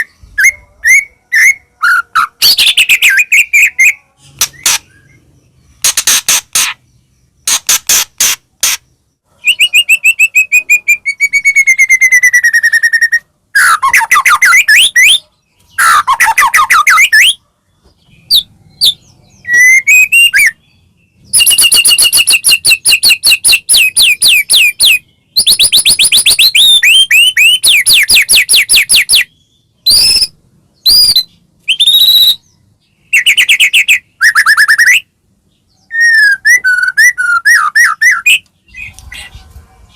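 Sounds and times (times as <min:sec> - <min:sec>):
songbird singing varied song: 0:00.0 - 0:07.7, 0:08.6 - 0:39.9.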